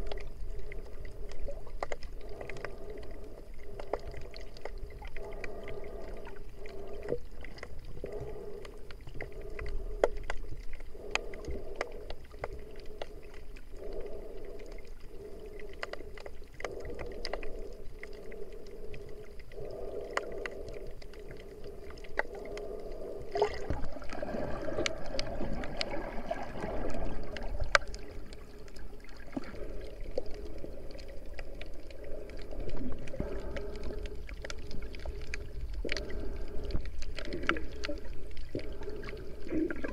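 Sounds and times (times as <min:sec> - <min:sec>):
low watery rumble underwater: 0:00.0 - 0:39.9
sharp clicks underwater: 0:00.0 - 0:39.9.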